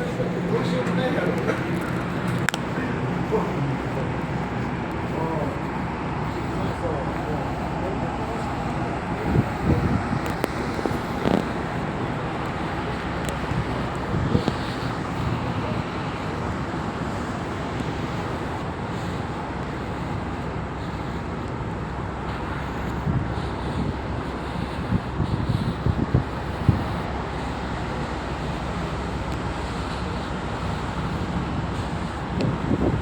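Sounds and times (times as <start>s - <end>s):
mechanical rumble: 0.0s - 33.0s
wind on microphone: 0.0s - 33.0s.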